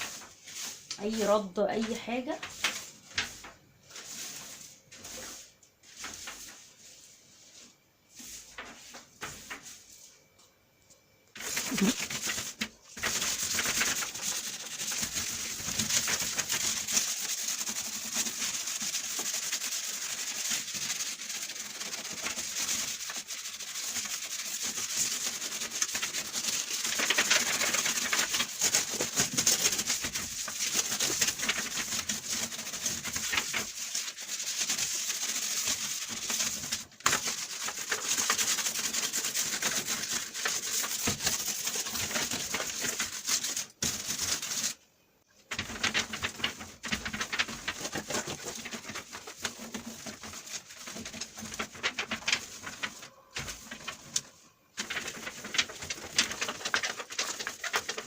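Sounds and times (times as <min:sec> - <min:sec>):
faint rustling and handling: 0:00.0 - 0:58.0
rough scrubbing rub: 0:02.4 - 0:10.1, 0:11.4 - 0:44.8, 0:45.5 - 0:58.0.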